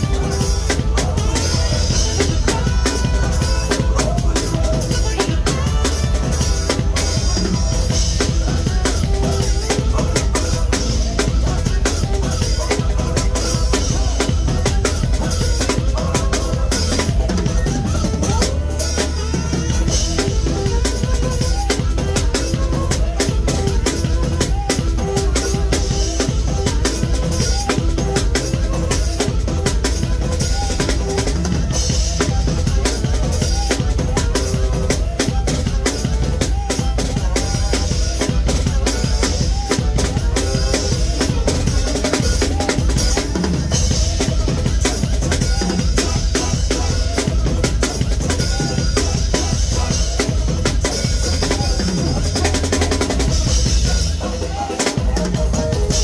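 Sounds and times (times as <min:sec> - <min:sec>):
drum kit groove: 0:00.0 - 0:56.0.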